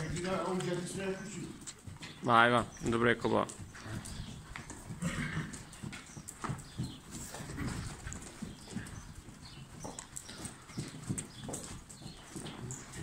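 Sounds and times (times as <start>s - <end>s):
horse hoofbeats trotting on sand: 0.0s - 13.0s.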